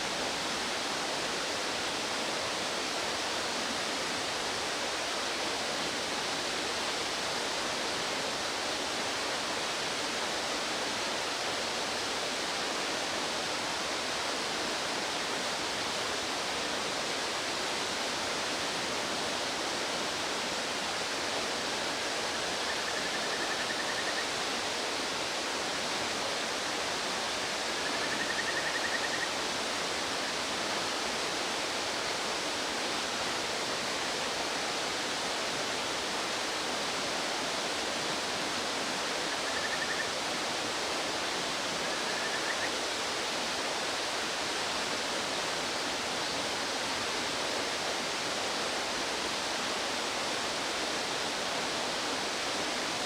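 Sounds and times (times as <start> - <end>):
rushing stream: 0.0 - 53.0.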